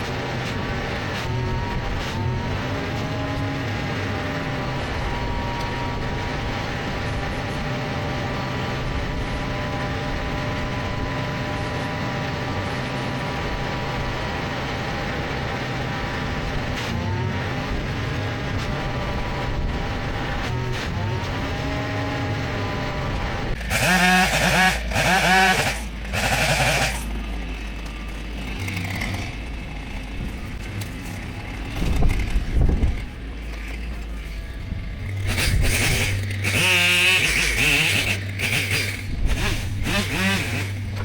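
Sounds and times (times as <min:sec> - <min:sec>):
excavator engine whine: 0:00.0 - 0:41.0.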